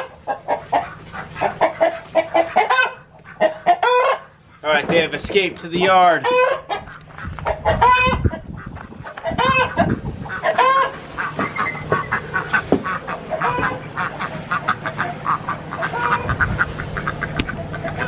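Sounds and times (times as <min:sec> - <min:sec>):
ducks calling quietly: 0:00.0 - 0:18.0
ducks honking: 0:00.0 - 0:18.0
steady low hum: 0:00.0 - 0:18.0.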